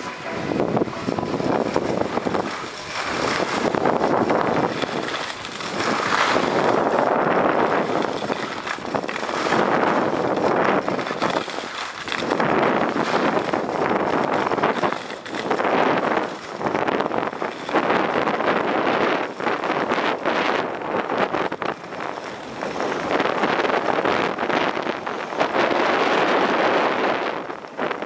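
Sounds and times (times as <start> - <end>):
skis sliding on snow: 0.0 - 28.0
wind on microphone: 0.0 - 28.0.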